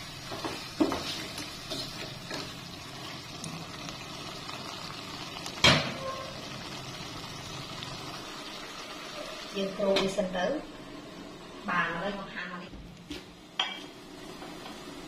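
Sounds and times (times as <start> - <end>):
fish sizzling in a pot: 0.0 - 15.0.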